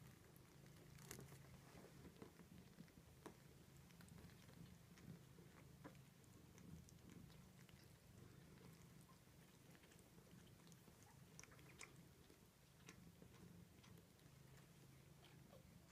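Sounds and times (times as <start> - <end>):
cat purring: 0.0 - 15.9
soft clicks of suckling and licking: 0.0 - 15.9.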